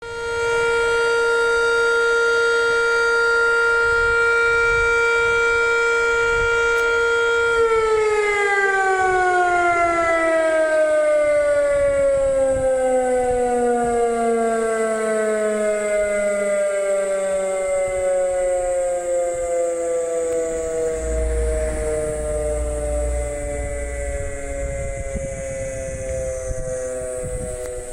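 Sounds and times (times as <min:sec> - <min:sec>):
electric motor siren wailing: 0:00.0 - 0:27.9.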